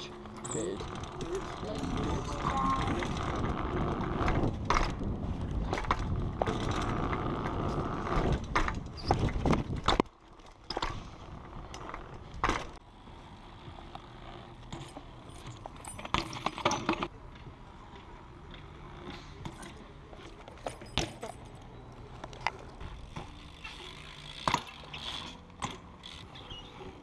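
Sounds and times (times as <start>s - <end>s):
bike tyres rumbling on paving: 0.0s - 20.4s, 22.6s - 27.0s.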